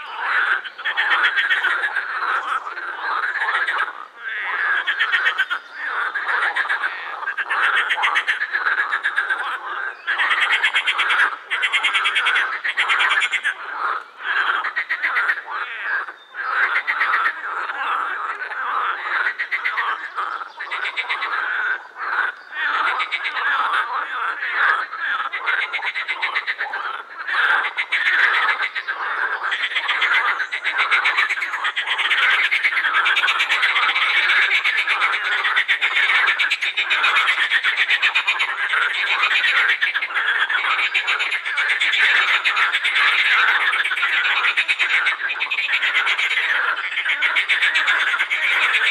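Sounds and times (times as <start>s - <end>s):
frogs croaking in chorus: 0.0s - 48.9s.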